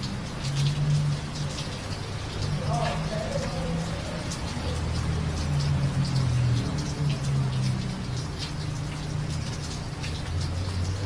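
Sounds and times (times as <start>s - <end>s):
rain patter on street: 0.0s - 11.0s.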